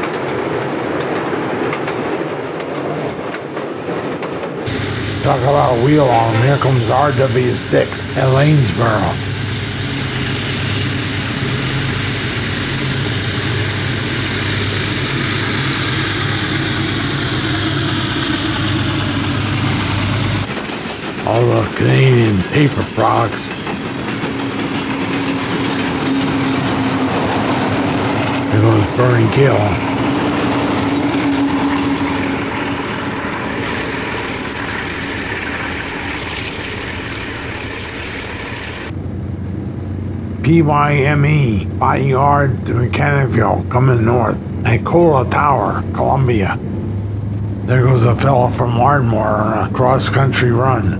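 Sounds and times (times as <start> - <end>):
diesel locomotive engine drone: 4.7 - 50.9
train rushing rumble: 4.7 - 50.9.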